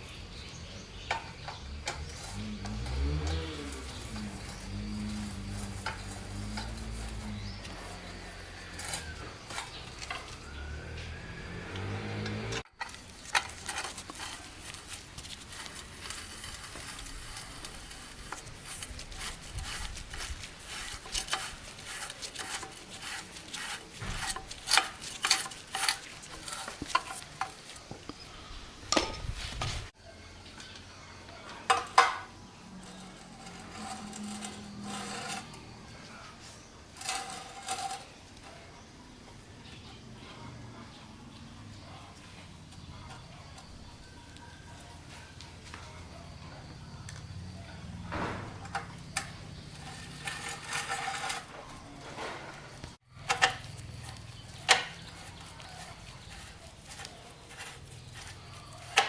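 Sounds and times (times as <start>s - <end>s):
rubbing and scraping on metal: 0.0s - 30.0s, 31.6s - 59.0s.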